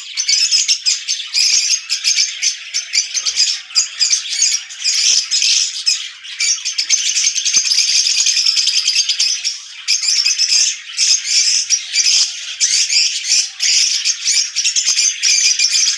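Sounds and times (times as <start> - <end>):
flock of birds twittering: 0.0 - 15.9.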